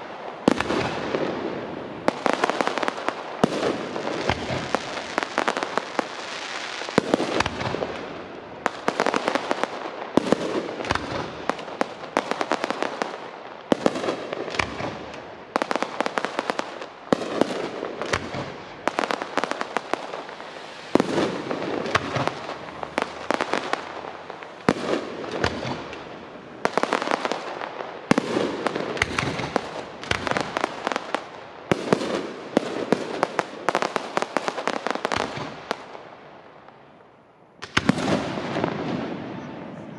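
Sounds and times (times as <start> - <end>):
fireworks bursting overhead: 0.0 - 36.9, 37.6 - 39.9.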